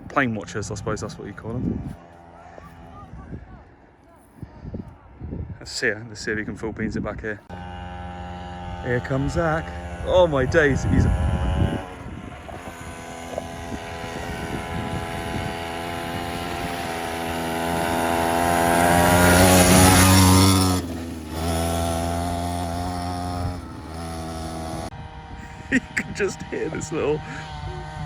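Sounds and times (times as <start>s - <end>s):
quad bike engine at full throttle: 0.0s - 4.3s, 7.4s - 28.0s.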